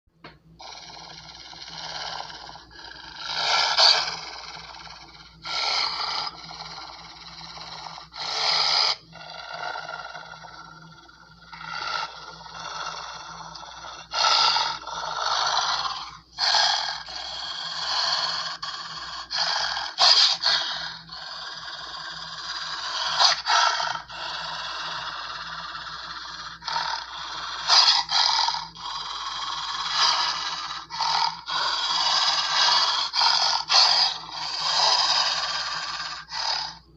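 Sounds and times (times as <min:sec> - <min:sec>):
harsh raspy death growls: 0:00.6 - 0:36.8.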